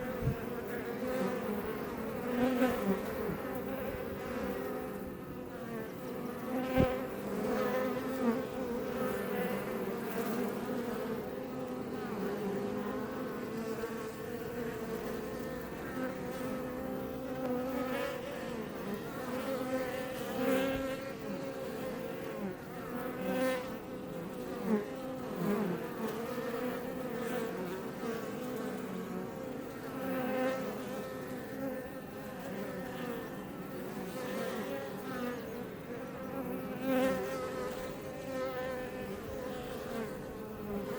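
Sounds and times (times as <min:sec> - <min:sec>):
bees buzzing: 0:00.0 - 0:40.9
single bee passing close: 0:00.0 - 0:40.9.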